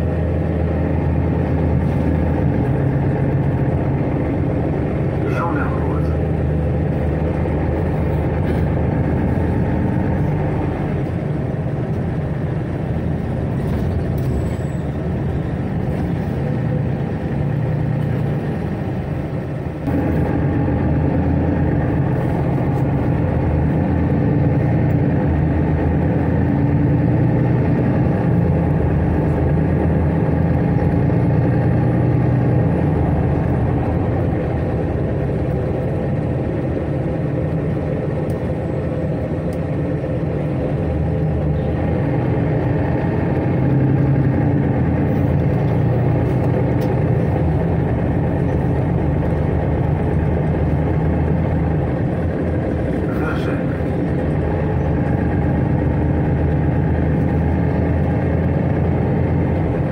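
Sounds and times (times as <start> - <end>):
bus diesel engine: 0.0 - 59.9
road rumble: 0.0 - 59.9.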